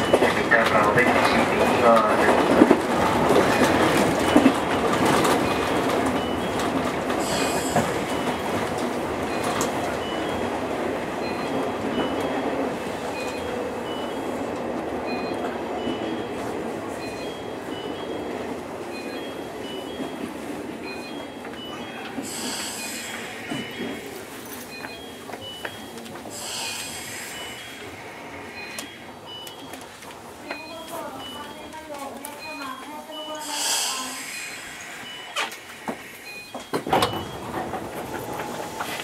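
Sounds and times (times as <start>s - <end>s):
wheel and rail noise: 0.0s - 39.0s.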